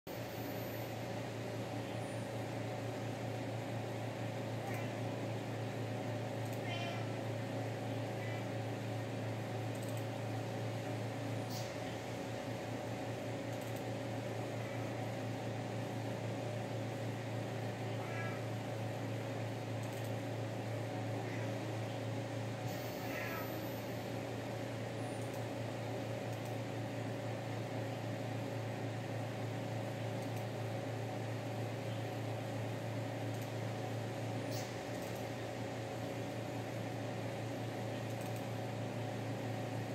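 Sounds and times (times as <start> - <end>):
steady background hum: 0.1 - 39.9.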